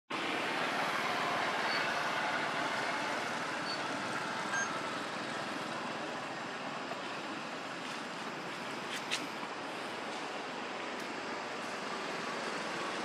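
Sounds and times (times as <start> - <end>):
outdoor background rush: 0.1 - 13.0.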